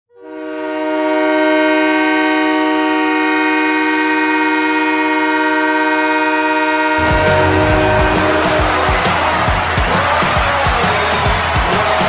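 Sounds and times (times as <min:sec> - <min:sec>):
goal horn chord: 0:00.1 - 0:11.2.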